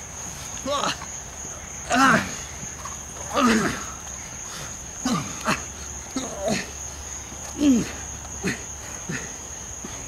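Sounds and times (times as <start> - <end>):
crickets chirring: 0.0 - 10.0
men grunting with effort: 0.6 - 1.2, 1.8 - 10.0.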